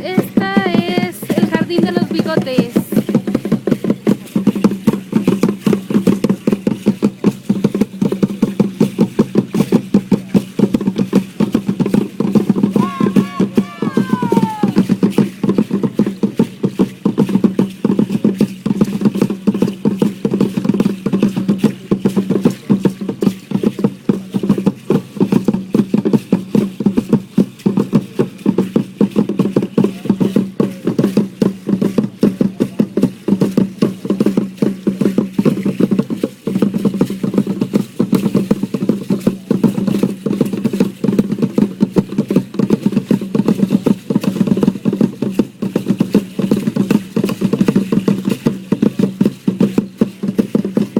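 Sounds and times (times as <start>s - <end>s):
fast rattling and drum beating: 0.0s - 50.9s.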